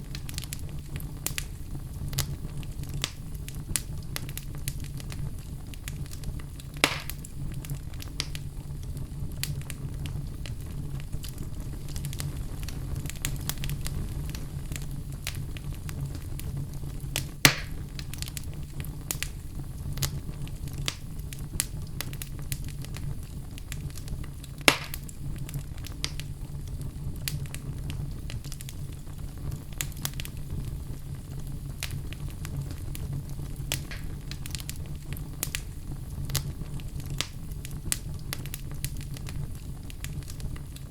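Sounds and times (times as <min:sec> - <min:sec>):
fire crackling: 0:00.0 - 0:40.9
fire flames rumbling: 0:00.0 - 0:40.9
loud fire pops: 0:00.0 - 0:40.9.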